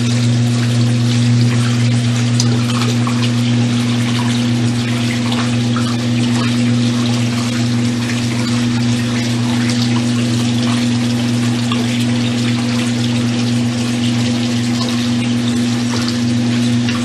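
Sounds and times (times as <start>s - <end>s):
washing machine motor hum: 0.0s - 17.0s
water rushing: 0.0s - 17.0s.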